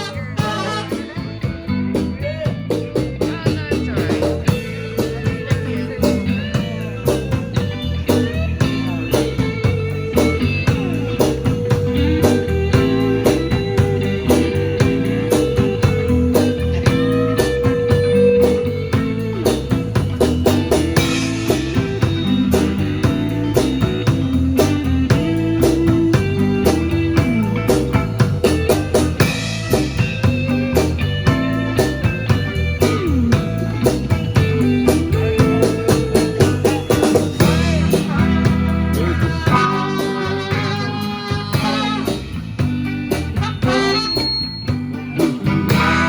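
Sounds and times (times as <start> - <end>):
live rock band: 0.0 - 46.0.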